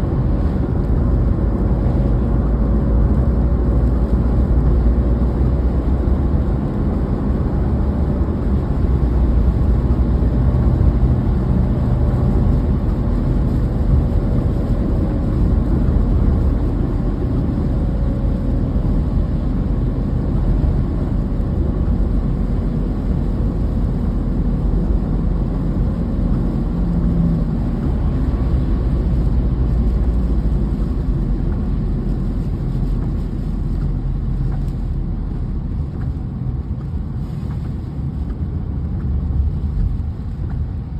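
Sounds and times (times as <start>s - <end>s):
car road noise rumble: 0.0s - 40.9s.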